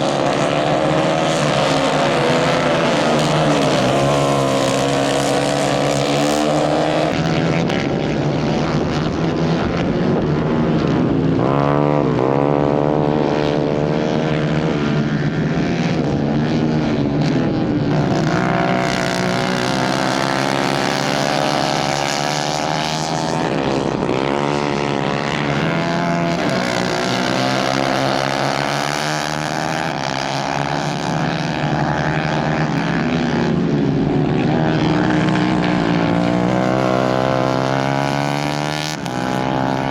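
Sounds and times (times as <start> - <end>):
racing kart engines revving: 0.0 - 39.9.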